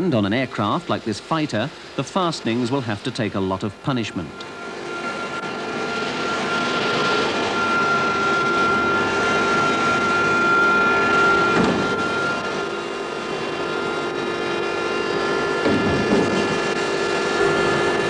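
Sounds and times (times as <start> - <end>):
jet engine high whine: 0.0 - 18.0
jet engine rushing noise: 0.0 - 18.0.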